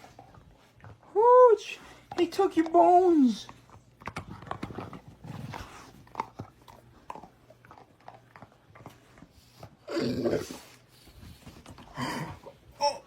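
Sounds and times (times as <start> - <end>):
dog chewing bone: 0.0 - 1.1, 1.9 - 12.7.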